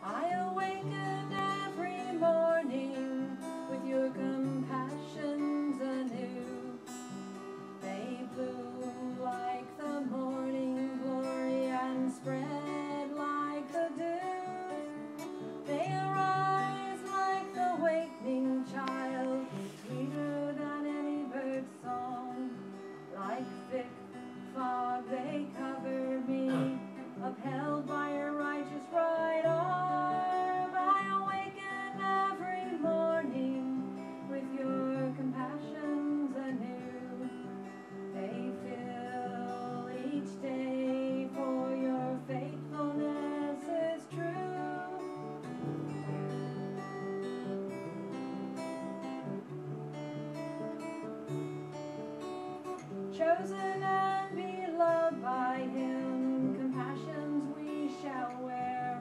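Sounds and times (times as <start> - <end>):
acoustic guitar chords: 0.0 - 59.0.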